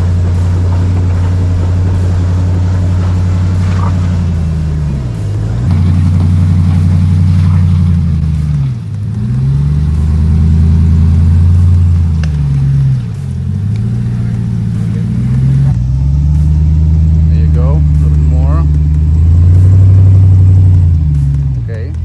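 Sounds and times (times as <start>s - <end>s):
truck engine revving at low revs: 0.0s - 22.0s.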